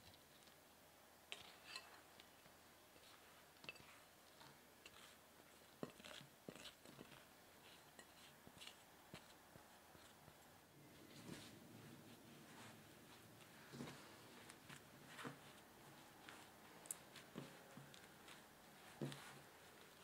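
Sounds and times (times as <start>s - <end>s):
sticky dough crackling: 0.0s - 20.0s.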